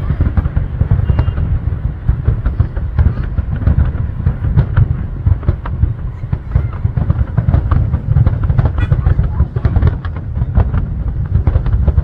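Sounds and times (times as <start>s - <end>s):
fireworks bangs and crackles: 0.0s - 12.0s
low booming: 0.0s - 12.0s.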